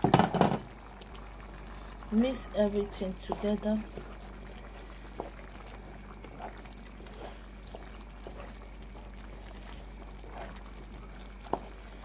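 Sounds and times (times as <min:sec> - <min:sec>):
spatula stirring thick porridge: 0:01.8 - 0:12.0.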